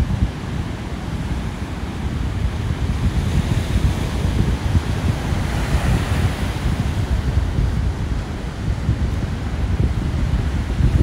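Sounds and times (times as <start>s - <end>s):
sea waves breaking: 0.0s - 11.0s
wind rumble on microphone: 0.0s - 11.0s.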